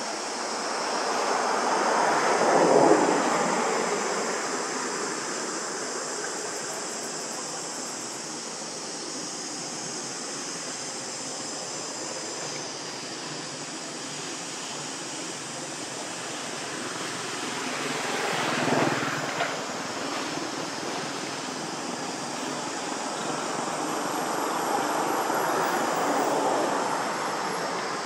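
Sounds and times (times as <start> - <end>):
outdoor ambient hiss: 0.0 - 28.0.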